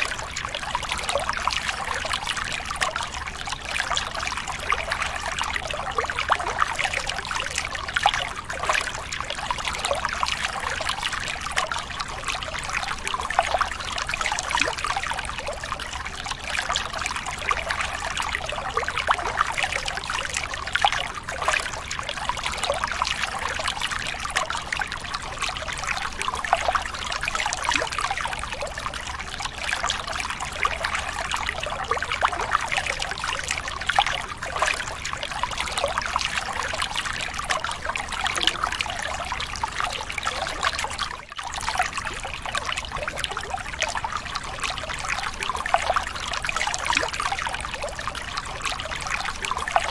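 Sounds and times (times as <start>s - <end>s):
trickling running water: 0.0s - 49.9s.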